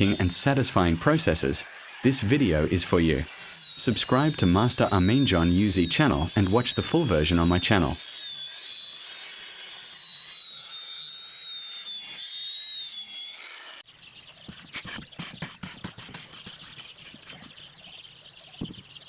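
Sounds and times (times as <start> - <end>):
small power tool whining: 0.0 - 19.0.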